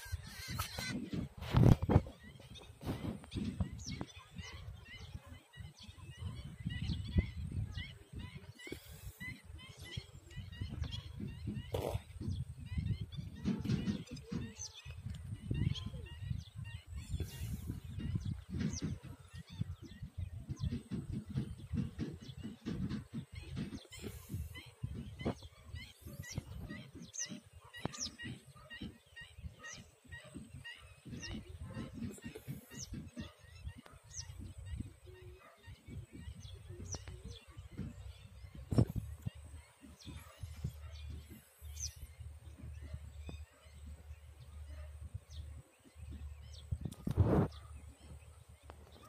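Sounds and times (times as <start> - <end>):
birds chirping: 0.0 - 49.0
wind rumble on microphone: 0.0 - 49.0.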